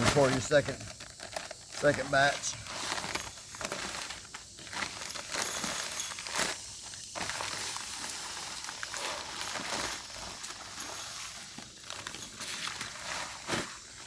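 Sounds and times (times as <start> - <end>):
dry concrete mix pouring: 0.0 - 14.0.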